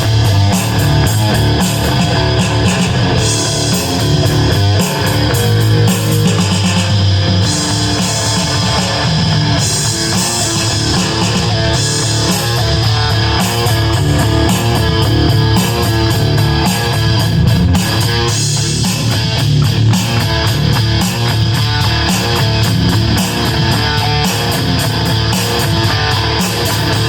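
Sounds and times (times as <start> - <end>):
distorted electric guitar riff: 0.0 - 27.0.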